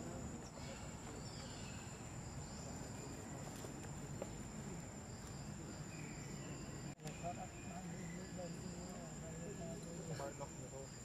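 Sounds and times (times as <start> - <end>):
faint low background noise: 0.0 - 11.0
insects droning: 0.0 - 11.0.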